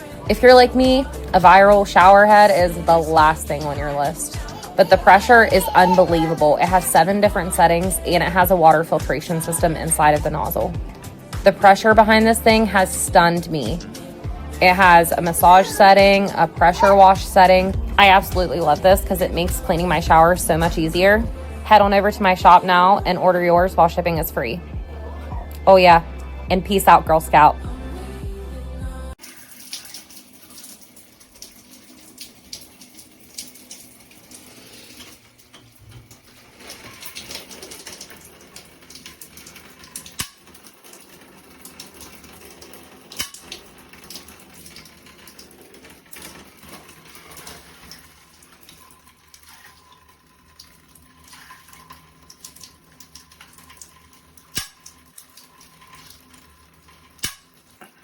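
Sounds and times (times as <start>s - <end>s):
faint running water: 0.0s - 27.6s, 29.1s - 58.0s.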